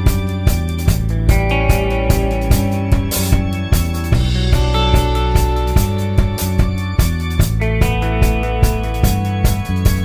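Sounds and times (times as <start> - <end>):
steady drum beat: 0.0 - 10.0.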